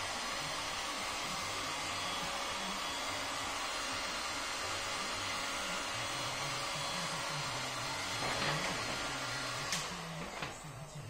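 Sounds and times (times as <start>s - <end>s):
heat gun blowing air: 0.0s - 10.2s.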